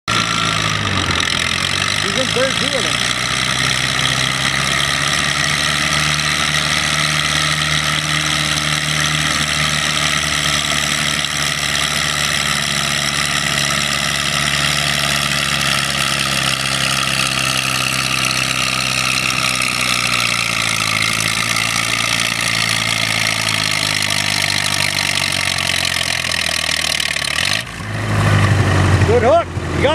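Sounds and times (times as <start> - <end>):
tractor engine running hard: 0.0 - 29.9.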